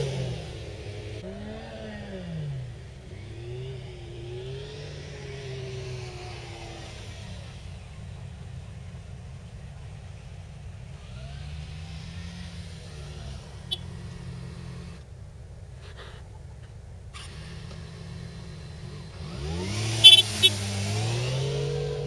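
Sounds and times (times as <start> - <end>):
distant motorcycle engine revving: 0.0 - 15.1, 17.2 - 22.0.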